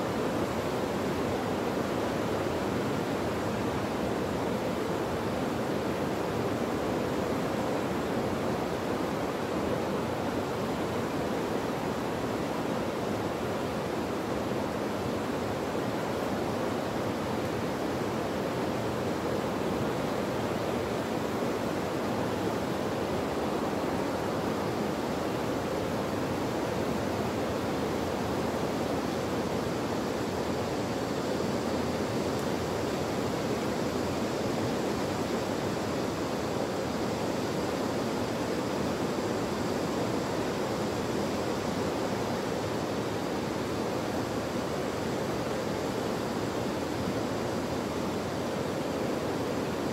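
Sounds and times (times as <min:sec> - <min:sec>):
river in flood roaring: 0:00.0 - 0:49.9.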